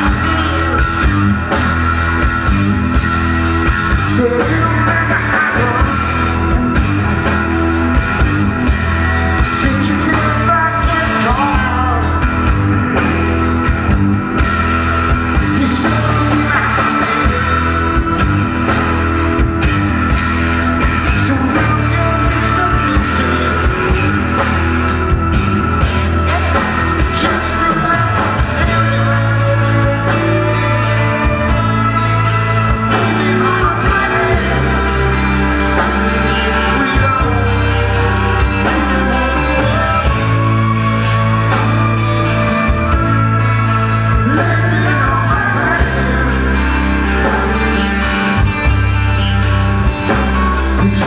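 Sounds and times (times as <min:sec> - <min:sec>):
person singing lead vocal: 0:00.0 - 0:01.8, 0:03.9 - 0:13.7, 0:14.9 - 0:19.7, 0:20.6 - 0:51.0
live rock band playing: 0:00.0 - 0:51.0.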